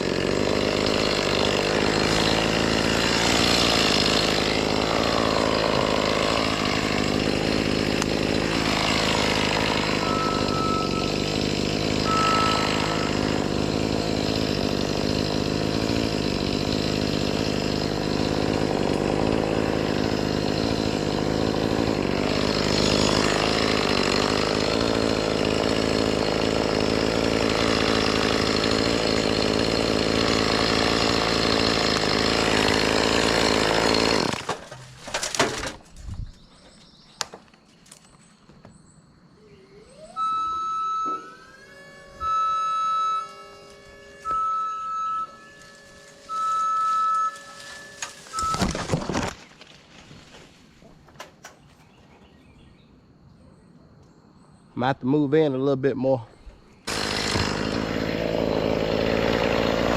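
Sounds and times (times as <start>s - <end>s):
chainsaw cutting tree limbs: 0.0s - 36.0s, 39.7s - 50.6s, 56.8s - 59.9s.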